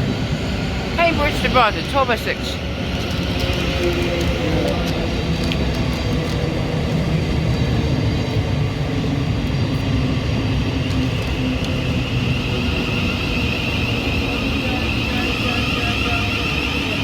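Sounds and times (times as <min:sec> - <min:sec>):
electric train rumbling: 0:00.0 - 0:17.0
high train whine: 0:00.0 - 0:17.0.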